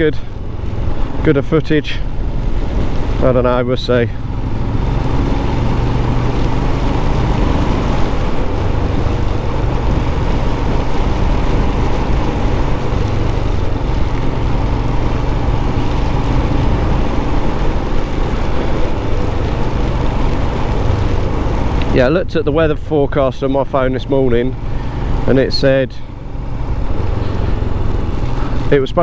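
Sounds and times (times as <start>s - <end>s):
motorcycle engine cruising: 0.0s - 29.0s
wind and rain on microphone: 0.0s - 29.0s.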